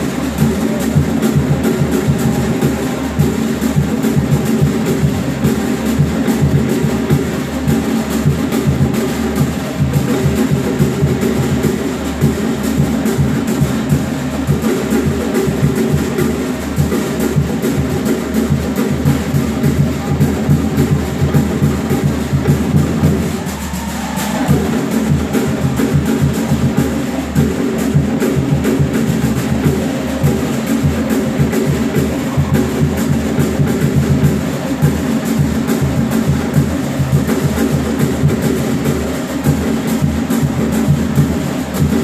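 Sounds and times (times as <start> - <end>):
drum ensemble fast beat: 0.0 - 42.0.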